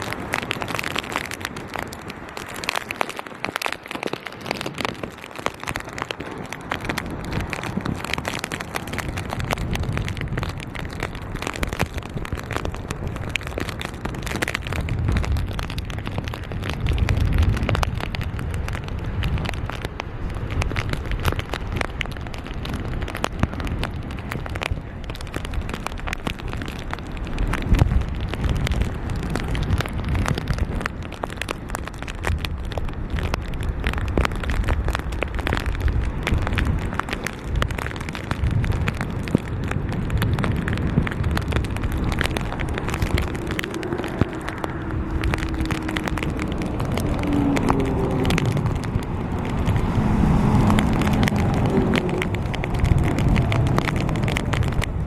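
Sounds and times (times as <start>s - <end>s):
plastic bag crackling: 0.0s - 55.0s
wind gusts rumbling on microphone: 0.0s - 55.0s.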